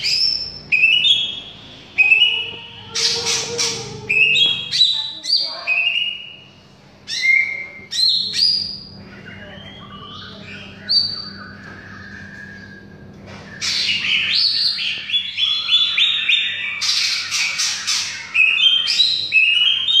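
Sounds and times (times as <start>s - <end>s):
bird singing whistled phrases: 0.0s - 6.4s, 7.1s - 20.0s.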